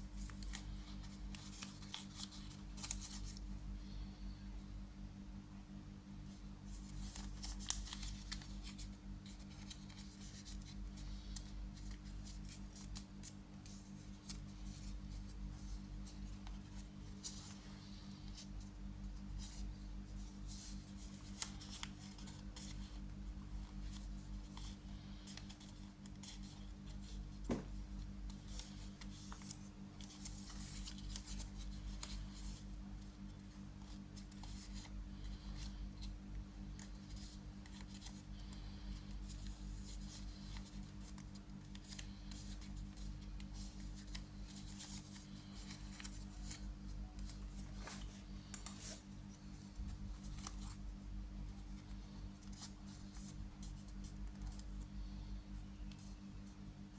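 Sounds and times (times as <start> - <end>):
paper rustling and crackling: 0.2 - 3.5, 6.6 - 55.2.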